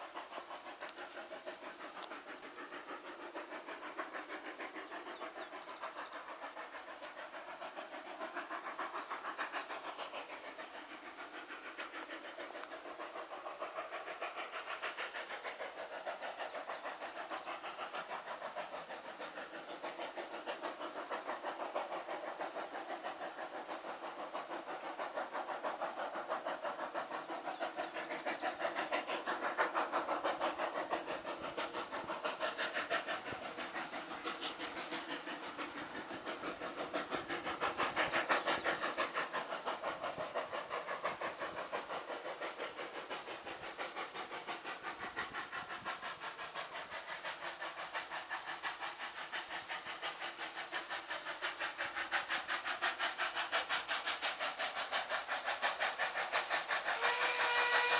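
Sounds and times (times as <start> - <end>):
steam hiss: 0.0 - 57.9
steam locomotive chuffing: 0.0 - 57.9.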